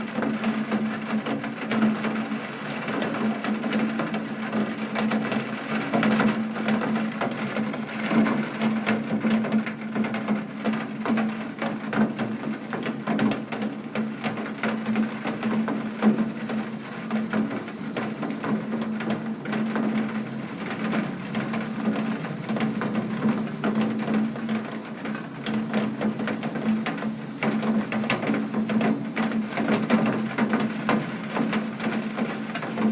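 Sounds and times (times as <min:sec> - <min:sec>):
rain tapping on hard surface: 0:00.0 - 0:32.9.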